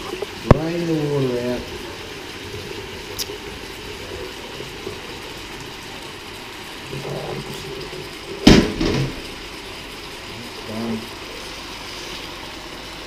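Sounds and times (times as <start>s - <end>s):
water draining into a steel sink: 0.0s - 13.0s.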